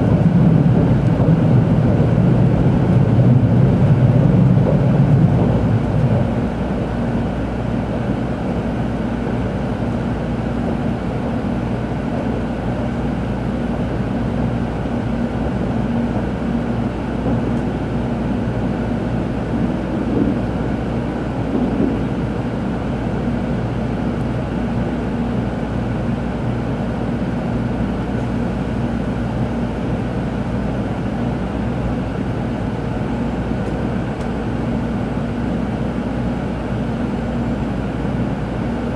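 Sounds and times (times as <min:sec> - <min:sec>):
train running rumble and hum: 0:00.0 - 0:38.9.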